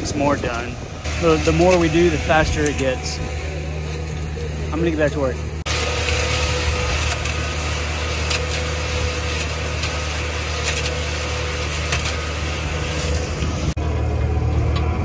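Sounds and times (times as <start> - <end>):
concrete mixer churning: 0.0 - 15.0.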